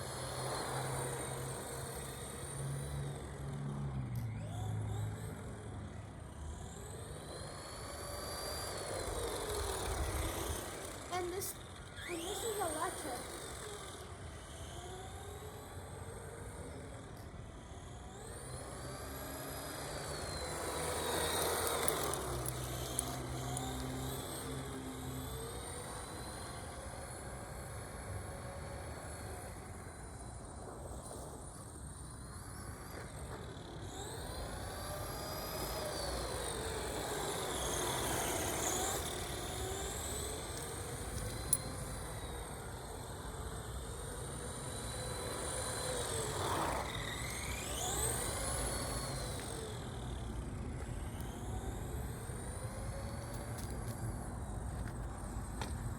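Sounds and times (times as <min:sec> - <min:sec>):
electric toy car motor whining: 0:00.0 - 0:55.9.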